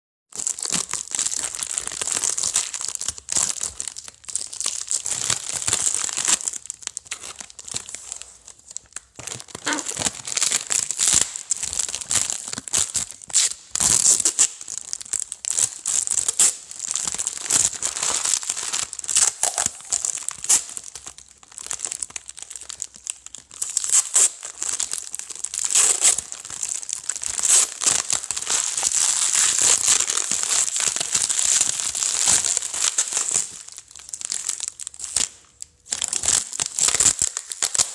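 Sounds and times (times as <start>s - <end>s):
plastic tape crackling: 0.4s - 37.9s.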